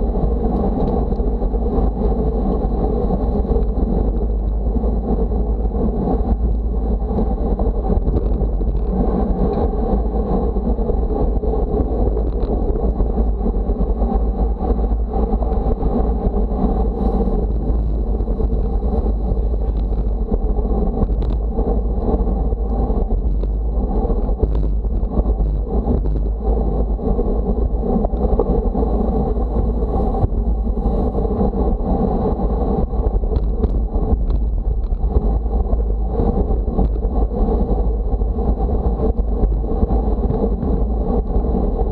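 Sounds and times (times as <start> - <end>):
road noise: 0.0 - 41.9
wind buffeting microphone: 0.0 - 41.9.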